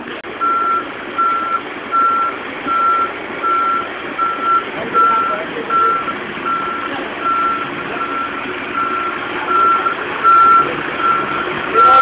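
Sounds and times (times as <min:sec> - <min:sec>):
truck background noise: 0:00.0 - 0:12.0
reversing alarm beeping: 0:00.4 - 0:12.0.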